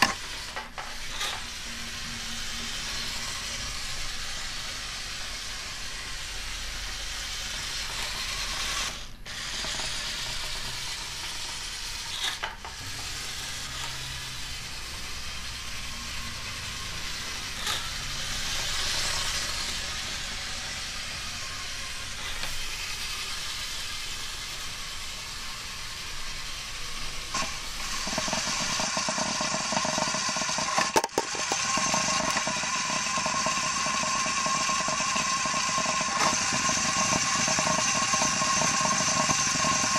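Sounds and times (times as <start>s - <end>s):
toy motor and gears whirring: 0.0s - 39.9s.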